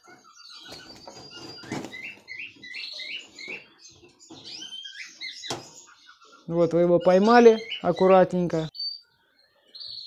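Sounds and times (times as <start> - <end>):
canary chirping: 0.0 - 10.0.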